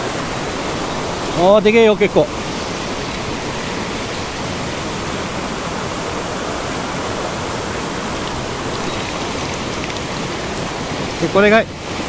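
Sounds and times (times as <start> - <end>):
stream rushing over boulders: 0.0 - 12.0.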